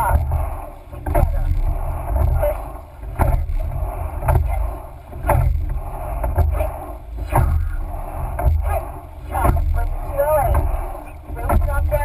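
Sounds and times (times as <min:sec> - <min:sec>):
oars knocking in oarlocks: 0:00.0 - 0:12.0
water rushing along hull: 0:00.0 - 0:12.0
wind rumble on microphone: 0:00.0 - 0:12.0.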